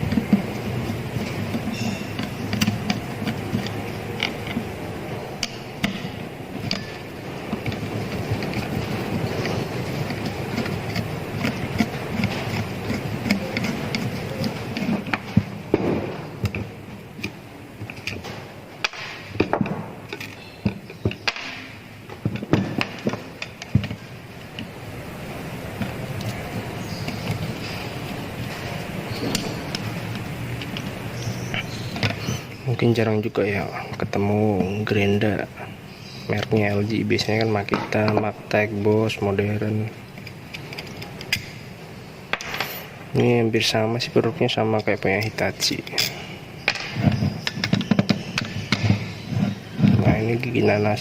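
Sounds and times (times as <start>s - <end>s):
hand tools and metal parts clicking: 0.0s - 15.8s, 16.4s - 35.5s, 36.3s - 41.7s, 42.3s - 51.0s
steady background noise: 0.0s - 51.0s.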